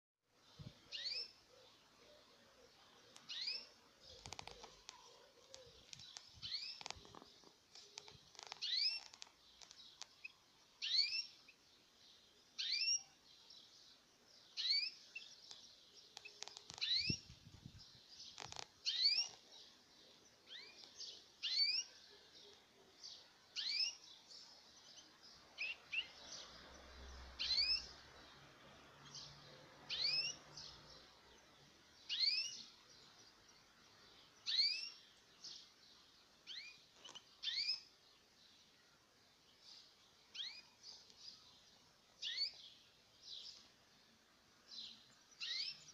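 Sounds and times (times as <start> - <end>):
canaries chirping: 0.8 - 11.6, 12.5 - 38.3, 39.5 - 43.8, 44.6 - 45.9.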